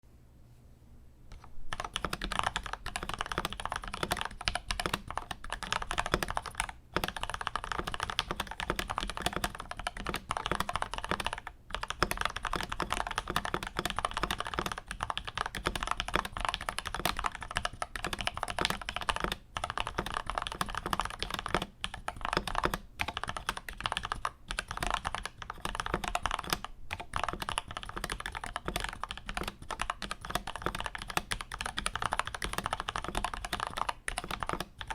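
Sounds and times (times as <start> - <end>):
mechanical keyboard typing: 1.3 - 34.9.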